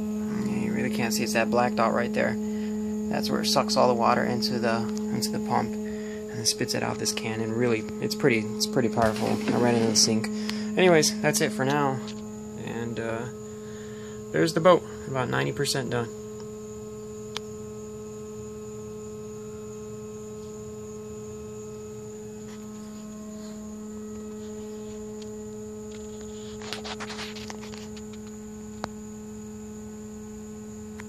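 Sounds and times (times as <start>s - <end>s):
electric water pump humming: 0.0s - 31.0s.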